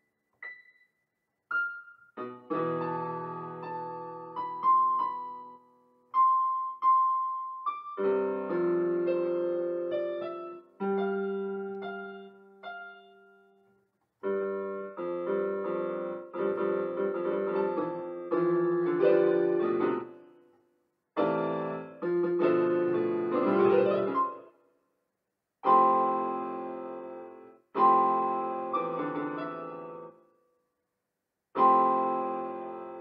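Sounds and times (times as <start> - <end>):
piano chords on keyboard: 1.5 - 20.4, 21.2 - 24.6, 25.6 - 30.2, 31.6 - 33.0.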